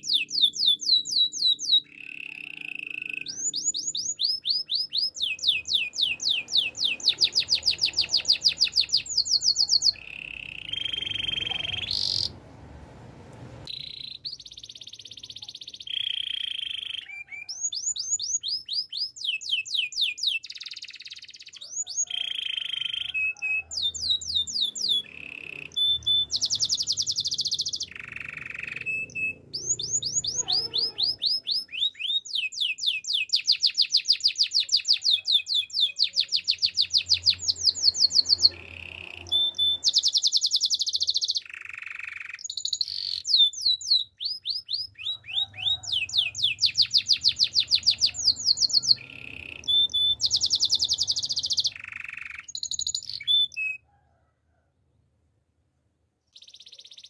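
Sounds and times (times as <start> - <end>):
canary singing trills: 0.0 - 12.6, 13.6 - 53.8, 56.3 - 57.0.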